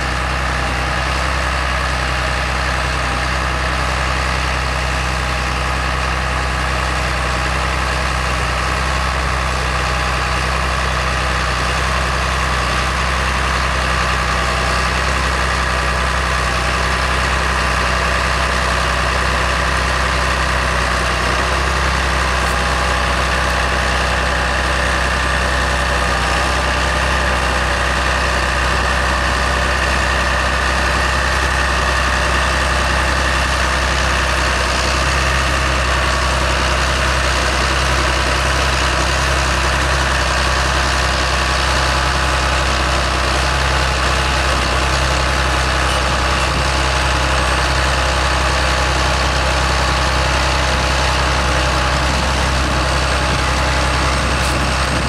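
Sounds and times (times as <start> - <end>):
harvester machinery running: 0.0 - 55.0
tractor diesel engine running: 0.0 - 55.0.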